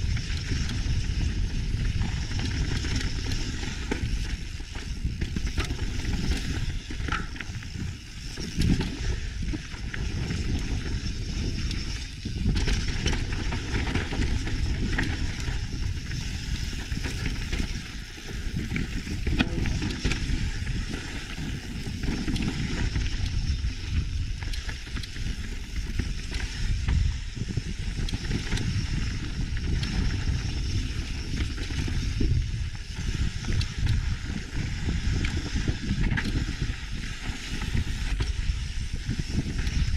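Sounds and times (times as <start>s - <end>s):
bike knocks and rattles: 0.0s - 39.9s
tyres crunching on dirt trail: 0.0s - 39.9s
wind rumble on microphone: 0.0s - 39.9s.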